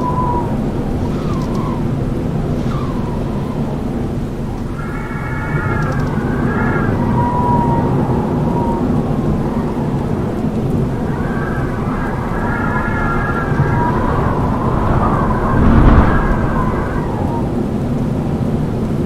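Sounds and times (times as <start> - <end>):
howling wind: 0.0 - 19.0.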